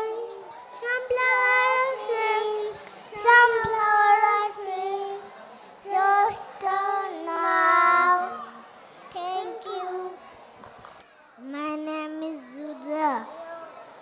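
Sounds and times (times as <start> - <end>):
child singing: 0.0 - 10.2, 11.4 - 13.4.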